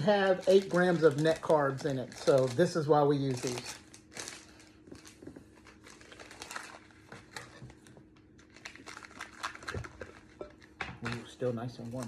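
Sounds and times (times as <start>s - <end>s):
plastic package crinkling: 0.0s - 12.0s.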